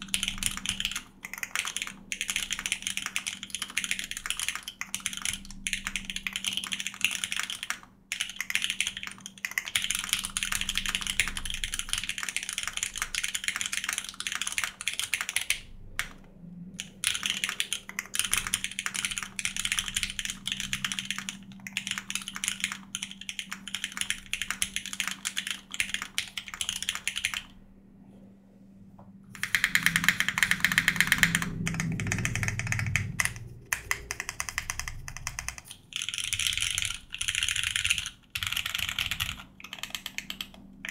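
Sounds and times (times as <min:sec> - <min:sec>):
fast typing on mechanical keyboard: 0:00.0 - 0:16.2, 0:16.8 - 0:27.6, 0:29.3 - 0:40.9.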